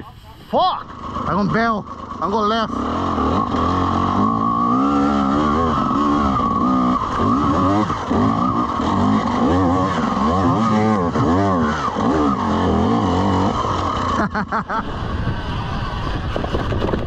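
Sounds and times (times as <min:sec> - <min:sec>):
dirt bike engine revving: 0:00.8 - 0:17.0.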